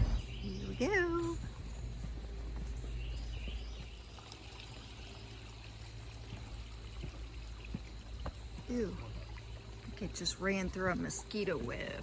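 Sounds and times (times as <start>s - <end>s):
water trickling and pouring: 0.6s - 12.0s.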